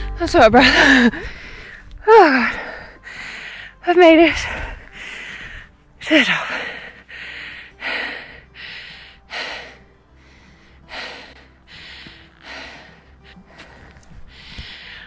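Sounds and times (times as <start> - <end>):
woman breathing hard: 0.8 - 5.8, 6.5 - 15.0.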